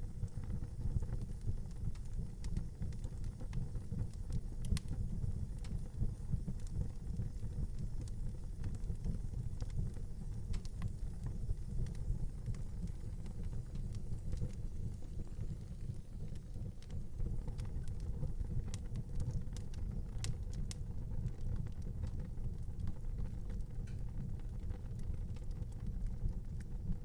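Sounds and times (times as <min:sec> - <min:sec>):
fire crackling and popping: 0:00.0 - 0:27.0
wood fire rumbling: 0:00.0 - 0:27.0.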